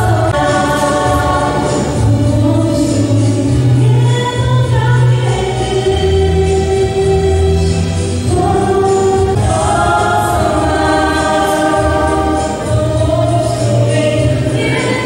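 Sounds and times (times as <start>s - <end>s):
women singing in harmony: 0.0s - 15.0s.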